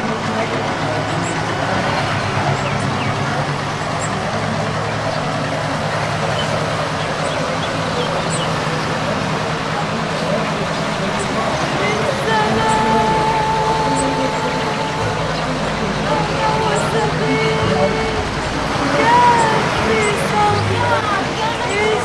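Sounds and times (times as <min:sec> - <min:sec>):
low engine hum: 0:00.0 - 0:22.0
road traffic noise: 0:00.0 - 0:22.0.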